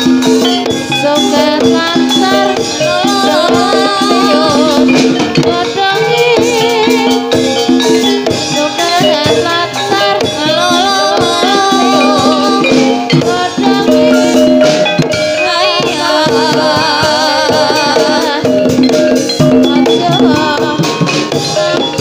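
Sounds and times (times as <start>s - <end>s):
drums and percussion: 0.0s - 22.0s
wavering vibrato melody: 0.0s - 22.0s.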